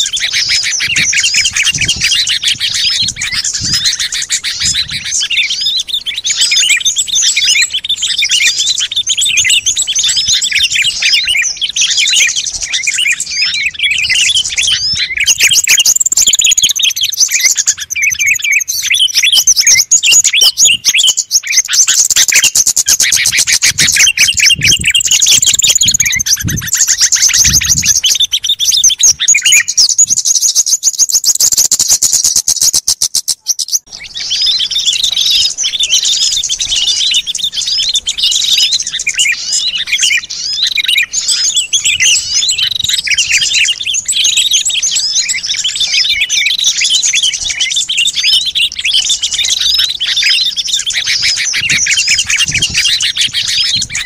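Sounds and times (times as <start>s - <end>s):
songbirds chirping and twittering: 0.0s - 54.0s.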